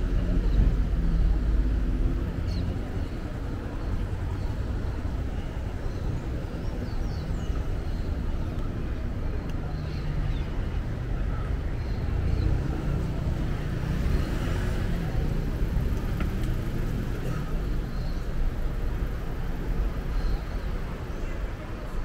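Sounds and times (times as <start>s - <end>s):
traffic rumble of passing cars: 0.0s - 22.0s.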